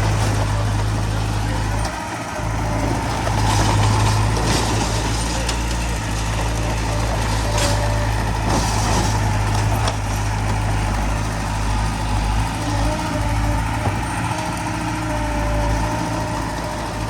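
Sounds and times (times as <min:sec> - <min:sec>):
heavy diesel machinery engine drone: 0:00.0 - 0:17.0.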